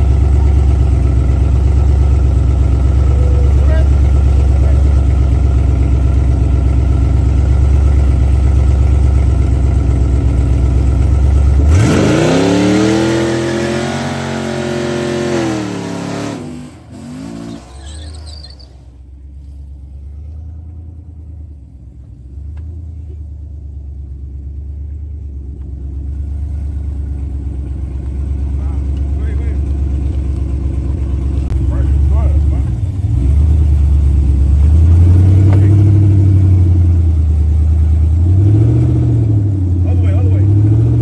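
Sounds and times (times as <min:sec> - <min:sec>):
car engines rumbling and revving: 0:00.0 - 0:41.0.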